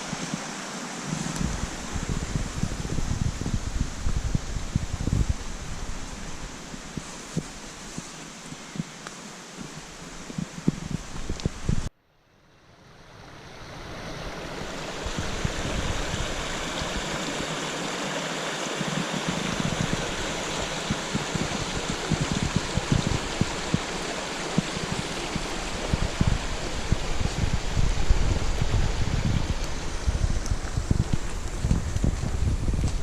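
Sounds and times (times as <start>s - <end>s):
wind thumps on microphone: 0.0s - 9.0s, 9.6s - 11.9s, 15.0s - 17.6s, 18.8s - 33.0s
water rushing over rocks: 0.0s - 11.9s, 13.9s - 33.0s.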